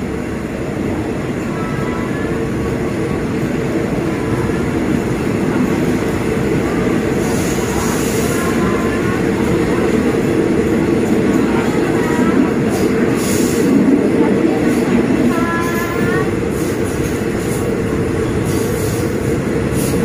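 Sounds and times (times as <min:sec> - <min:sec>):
moving train rumble: 0:00.0 - 0:20.0.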